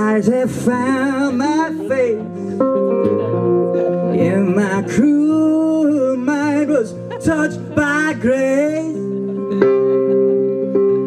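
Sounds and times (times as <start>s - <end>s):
resonator guitar: 0.0s - 11.0s.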